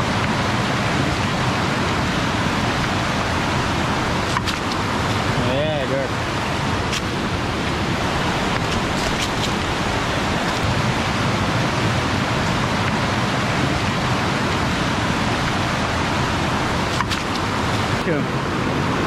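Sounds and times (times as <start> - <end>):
waterfall rushing over rock: 0.0 - 19.0.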